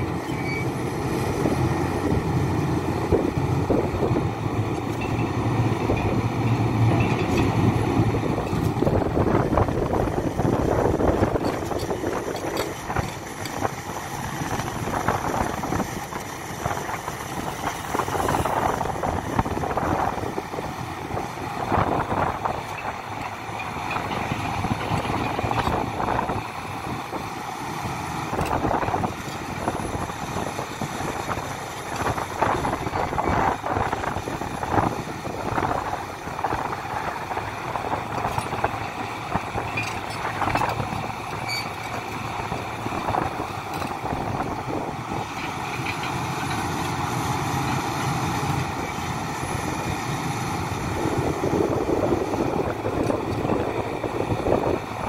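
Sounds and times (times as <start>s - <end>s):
excavator diesel engine under load: 0.0s - 55.0s.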